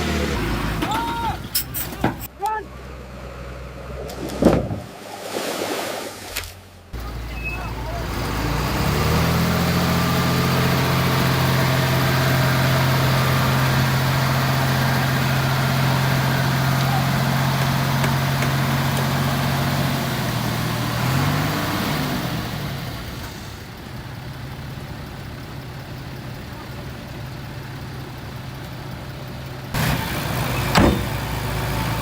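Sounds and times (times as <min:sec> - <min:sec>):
heavy diesel engine running: 0:00.0 - 0:04.1, 0:07.0 - 0:32.0.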